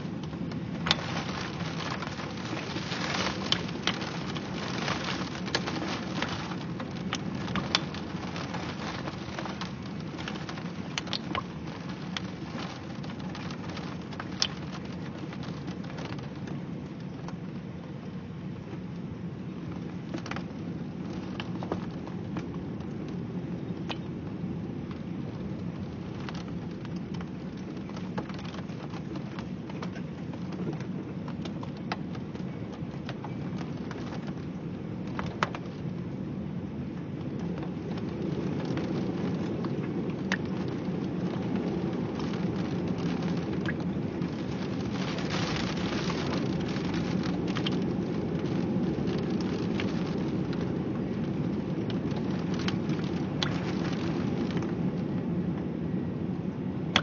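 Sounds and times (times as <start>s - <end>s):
heavy rain: 0.0s - 57.0s
raindrops ticking on hard surface: 0.0s - 57.0s.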